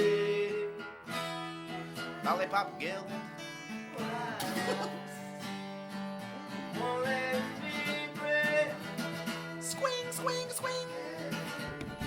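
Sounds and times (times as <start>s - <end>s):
person singing: 0.0s - 5.6s, 6.2s - 12.0s
acoustic guitar strumming: 0.0s - 12.0s.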